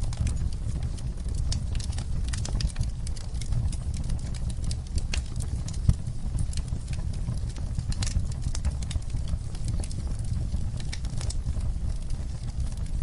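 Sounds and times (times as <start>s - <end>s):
fire pops and snaps: 0.0s - 13.0s
low rumble of flames: 0.0s - 13.0s
wood fire crackling: 0.0s - 13.0s.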